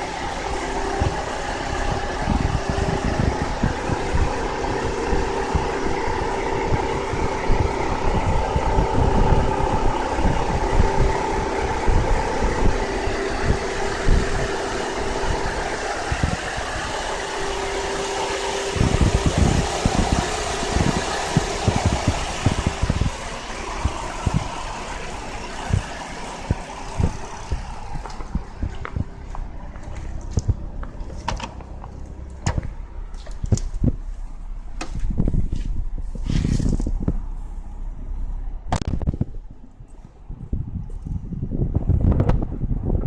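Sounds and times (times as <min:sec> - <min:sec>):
car engine idling: 0:00.0 - 0:41.4
steady hum: 0:00.0 - 0:43.0.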